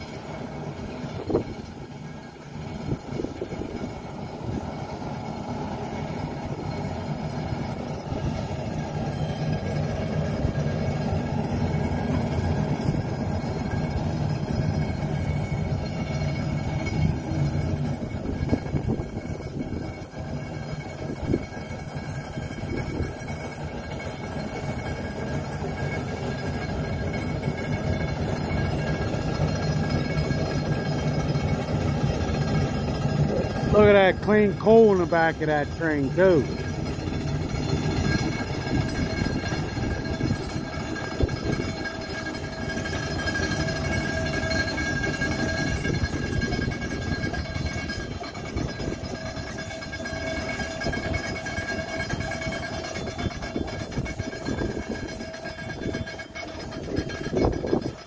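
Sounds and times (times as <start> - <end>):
steam locomotive rumbling: 0.0 - 58.0.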